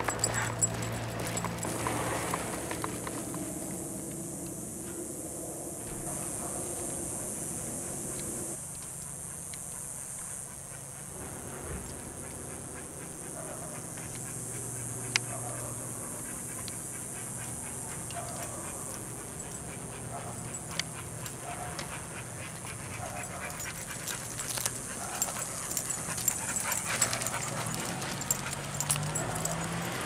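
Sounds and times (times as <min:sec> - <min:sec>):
collar tags jingling: 0:00.0 - 0:03.9, 0:06.1 - 0:30.0
dogs panting: 0:00.0 - 0:05.2, 0:05.8 - 0:30.0.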